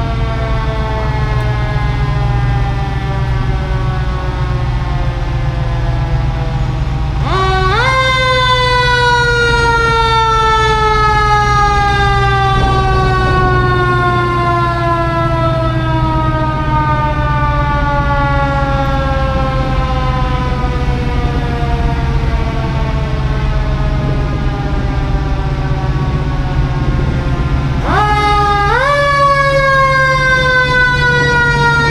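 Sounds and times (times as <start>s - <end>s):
low engine rumble: 0.0s - 31.9s
mechanical fire truck siren wailing: 0.0s - 31.9s.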